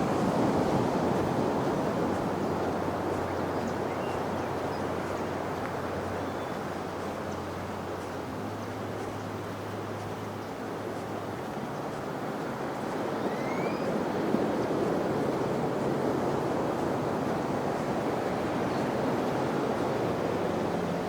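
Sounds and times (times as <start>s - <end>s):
ocean surf washing ashore: 0.0s - 7.2s, 10.8s - 21.0s.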